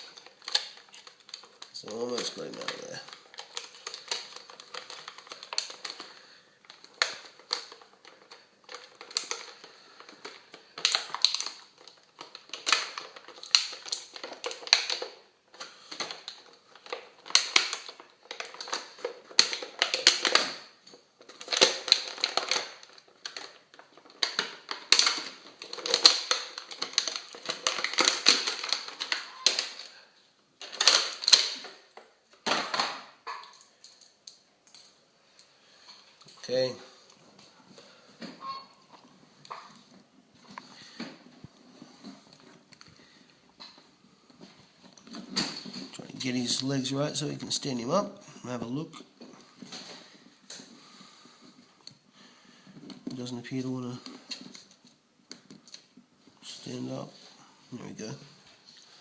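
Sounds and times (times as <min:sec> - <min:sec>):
plastic packaging crinkling: 0:00.0 - 0:59.0.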